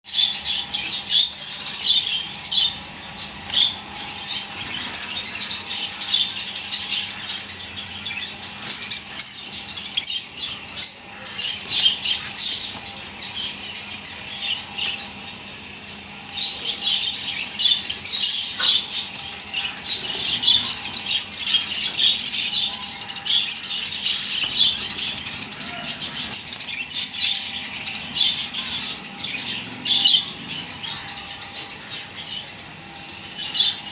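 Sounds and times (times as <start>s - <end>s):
sparrows chirping and twittering: 0.0s - 33.9s.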